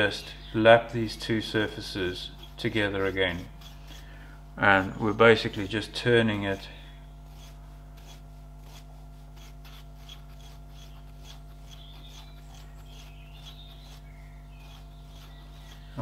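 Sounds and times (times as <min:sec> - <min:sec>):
steady low hum: 0:00.0 - 0:16.0
gritty rasping of brass grinding: 0:01.2 - 0:16.0.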